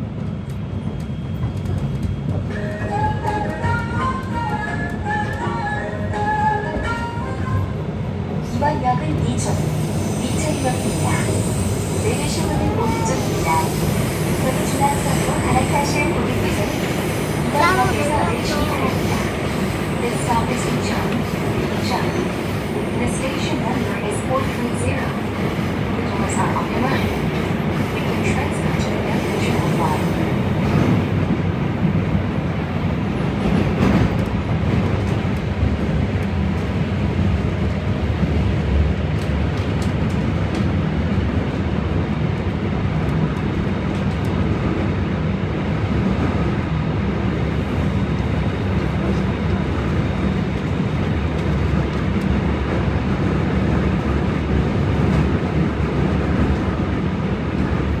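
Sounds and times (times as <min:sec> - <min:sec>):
subway train wheels rumbling: 0:00.0 - 0:58.0.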